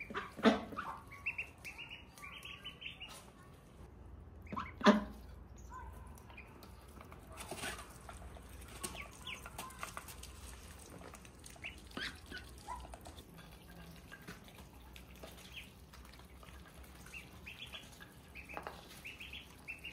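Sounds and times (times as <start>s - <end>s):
ducklings peeping: 0.0s - 3.5s, 4.3s - 19.9s
duck pecking feed from plate: 0.0s - 3.6s, 6.0s - 19.9s.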